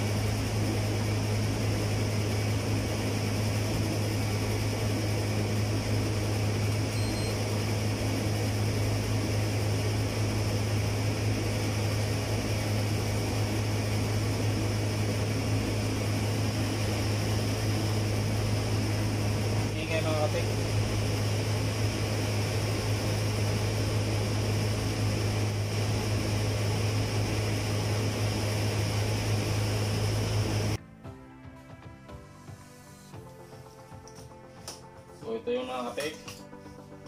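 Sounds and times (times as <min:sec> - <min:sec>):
tumble dryer humming and whirring: 0:00.0 - 0:30.8.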